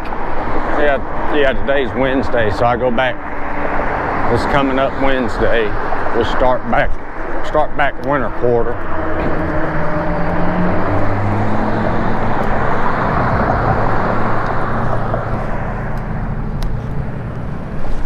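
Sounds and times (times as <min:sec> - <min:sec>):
wind rushing on microphone: 0:00.2 - 0:18.0
motor vehicle passing close: 0:02.6 - 0:18.0.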